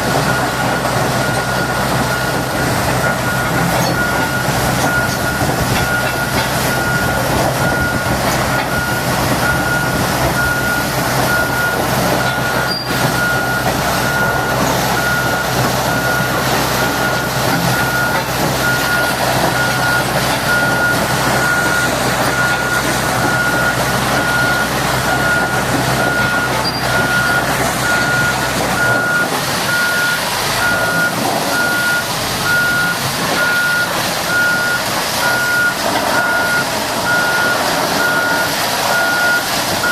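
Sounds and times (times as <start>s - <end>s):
diesel engine running: 0.0s - 39.9s
reversing alarm beeping: 0.0s - 39.9s.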